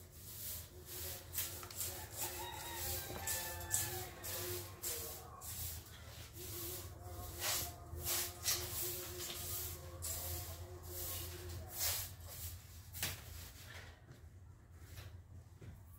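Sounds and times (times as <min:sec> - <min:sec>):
broom sweeping tiled floor: 0:00.0 - 0:15.2.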